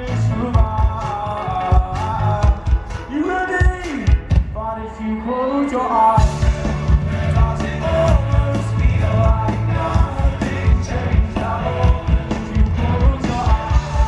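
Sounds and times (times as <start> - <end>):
steady drum beat: 0.0 - 4.6, 6.2 - 14.0
live rock band playing: 0.0 - 4.7, 5.9 - 14.0.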